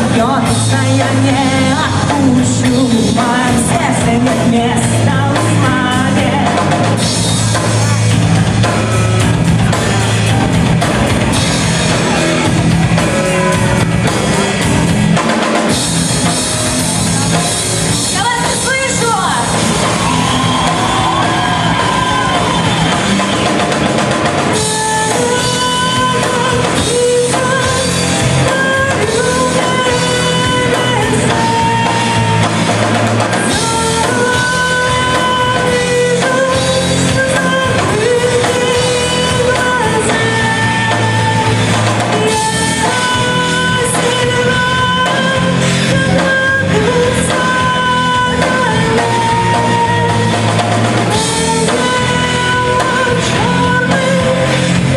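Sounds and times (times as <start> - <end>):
instrumental rock band playing: 0.0 - 54.9.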